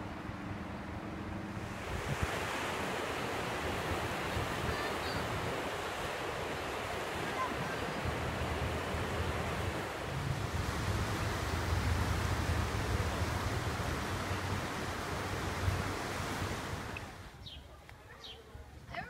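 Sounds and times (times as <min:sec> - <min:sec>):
river water rushing: 0:00.0 - 0:17.3
wind on microphone: 0:01.3 - 0:17.5.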